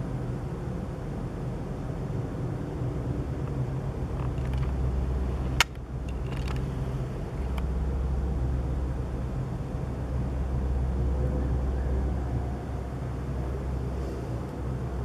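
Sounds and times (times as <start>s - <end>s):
deep droning hum: 0.0s - 15.0s.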